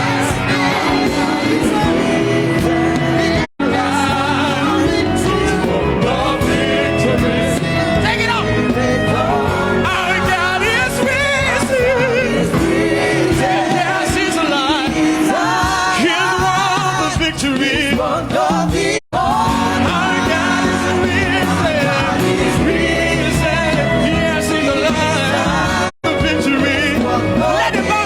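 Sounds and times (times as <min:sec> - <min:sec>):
choir singing gospel song: 0:00.0 - 0:28.0
instrumental backing: 0:00.0 - 0:28.0.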